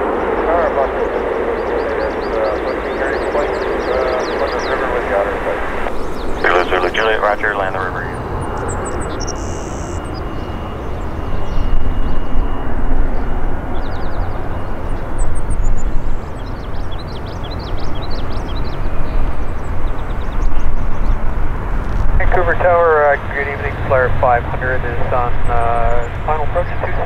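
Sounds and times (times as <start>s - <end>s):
jet airliner roar: 0.0s - 27.0s.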